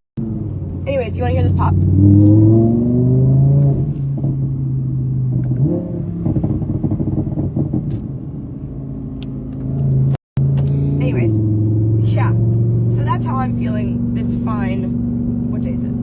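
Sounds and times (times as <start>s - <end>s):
car engine revving: 0.2s - 16.0s.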